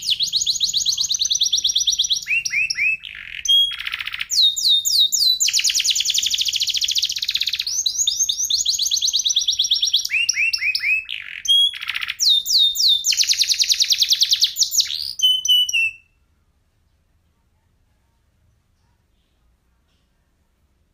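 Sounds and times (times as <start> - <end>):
canary singing trills: 0.0 - 17.1.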